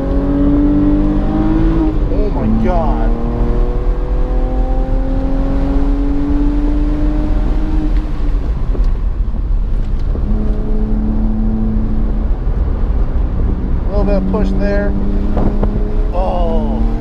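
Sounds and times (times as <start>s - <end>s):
car engine revving at full throttle: 0.0s - 17.0s
road rumble: 0.0s - 17.0s
wind noise: 0.0s - 17.0s.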